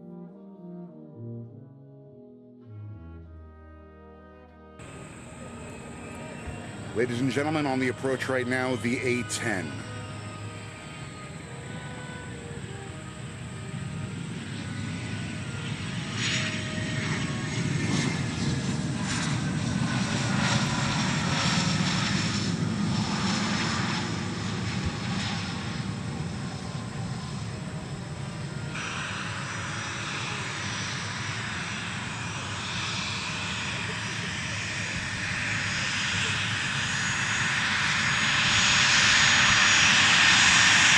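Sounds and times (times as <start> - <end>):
jet engines passing: 4.8 - 40.9.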